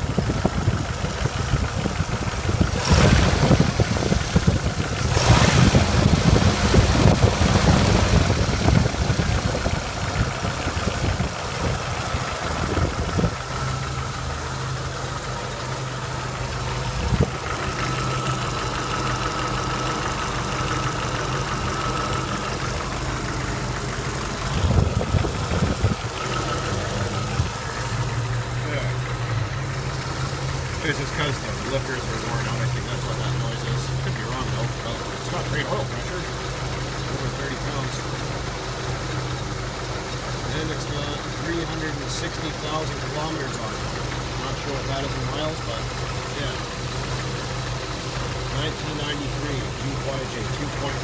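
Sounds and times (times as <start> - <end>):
engine idling: 0.0 - 51.0
engine lifter ticking: 0.0 - 51.0.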